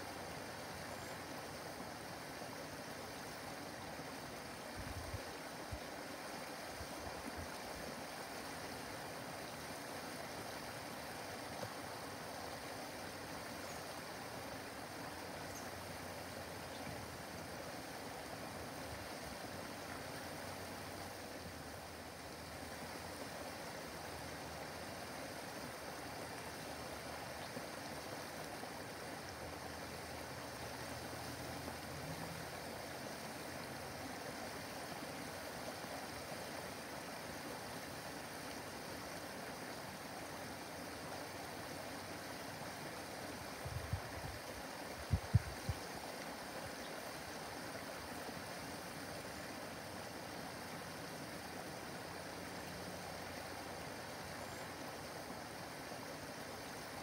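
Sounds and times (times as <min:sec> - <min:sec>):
waterfall spilling over rocks: 0:00.0 - 0:57.0.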